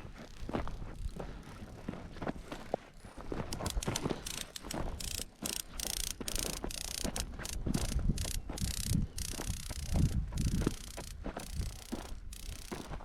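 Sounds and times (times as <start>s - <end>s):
footsteps crunching on dry ground: 0.0s - 13.0s.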